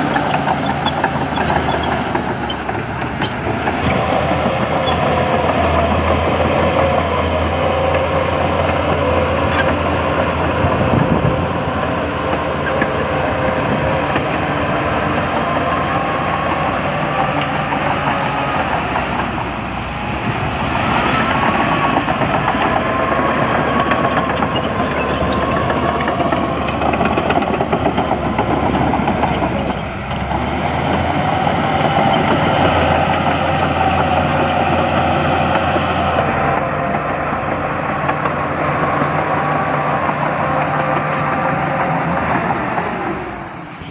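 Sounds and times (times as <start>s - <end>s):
heavy machinery diesel engines: 0.0s - 43.9s.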